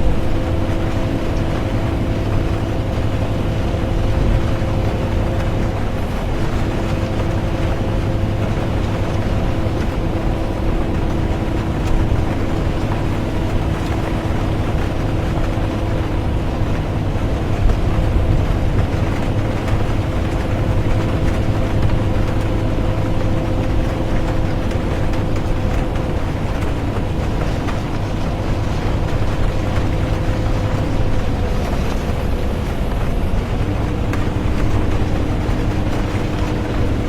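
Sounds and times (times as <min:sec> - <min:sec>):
bus engine and road rumble: 0:00.0 - 0:37.0
constant hum: 0:00.0 - 0:37.0
tyres and rain noise: 0:00.0 - 0:37.0.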